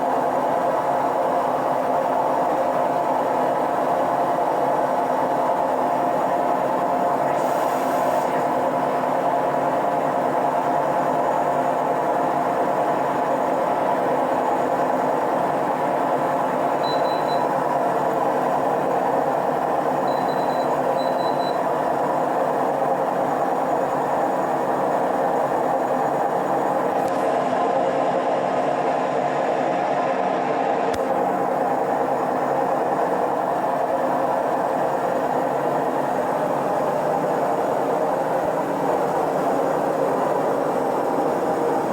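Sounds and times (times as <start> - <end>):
washing machine spinning: 0.0 - 30.1, 30.8 - 41.9.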